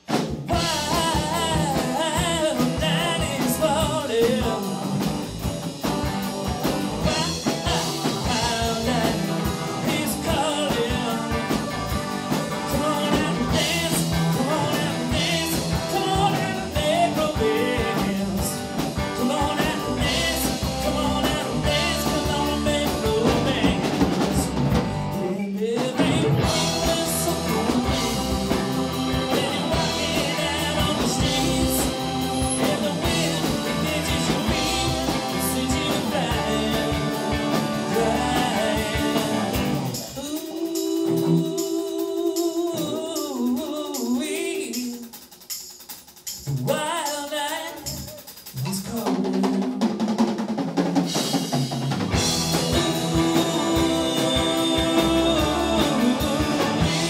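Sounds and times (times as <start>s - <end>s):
live rock band playing: 0.0s - 45.2s, 45.8s - 57.0s
lead vocal singing: 0.4s - 6.0s, 6.6s - 45.3s, 46.6s - 50.0s, 52.1s - 57.0s.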